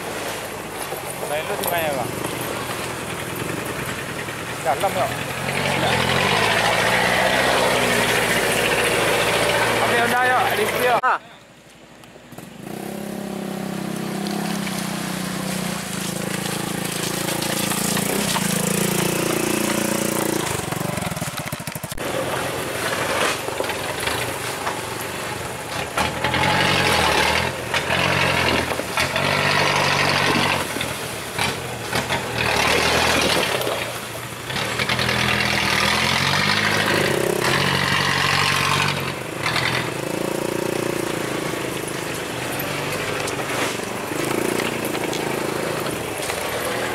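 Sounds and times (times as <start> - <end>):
truck engine revving: 0.0 - 11.0, 12.3 - 46.9.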